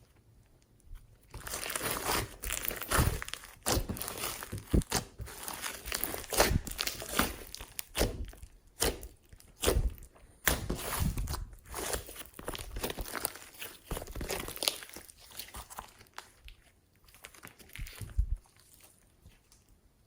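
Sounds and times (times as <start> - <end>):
slime squished by hand: 1.3 - 19.6.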